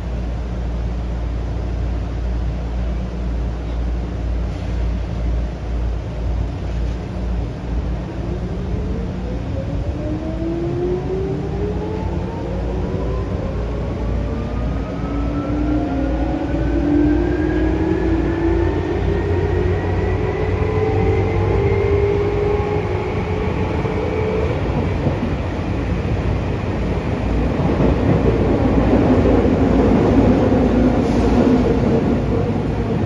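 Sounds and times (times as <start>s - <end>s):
train running rumble in tunnel: 0.0s - 33.0s.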